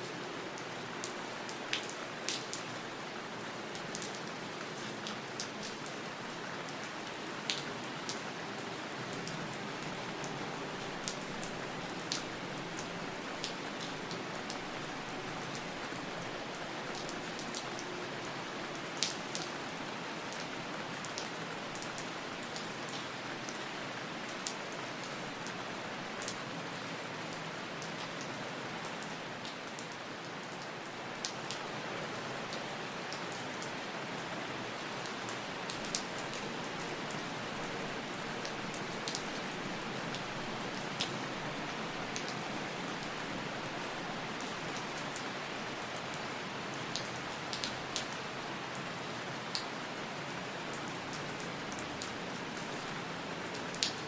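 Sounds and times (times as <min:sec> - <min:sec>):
steady rain hissing: 0:00.0 - 0:54.0
raindrops striking a surface: 0:00.1 - 0:31.6, 0:32.4 - 0:48.8, 0:50.8 - 0:54.0.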